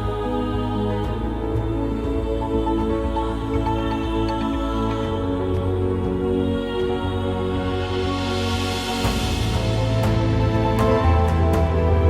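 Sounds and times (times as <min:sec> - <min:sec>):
calm new-age music: 0:00.0 - 0:12.0.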